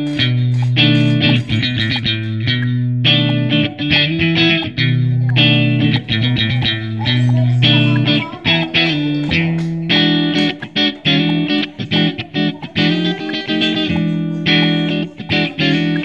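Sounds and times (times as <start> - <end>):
guitar background music: 0.0 - 16.0.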